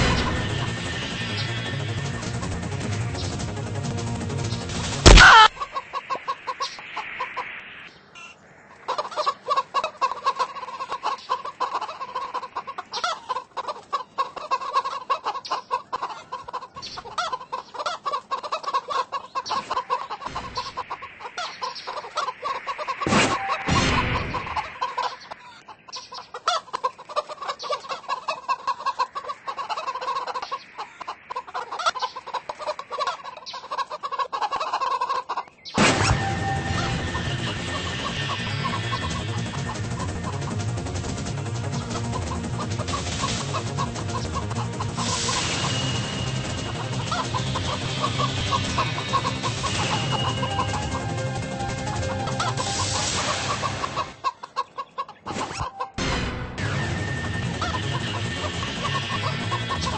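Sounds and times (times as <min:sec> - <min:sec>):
hens clucking: 0:00.0 - 0:07.6, 0:08.2 - 0:56.0, 0:56.9 - 0:59.9.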